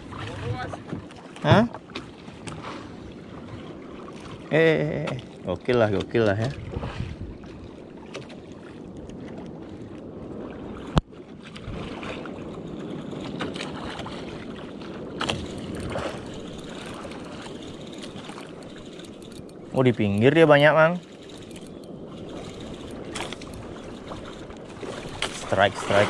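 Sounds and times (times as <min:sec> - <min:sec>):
sea water: 0:00.0 - 0:26.0
wind: 0:00.0 - 0:26.0.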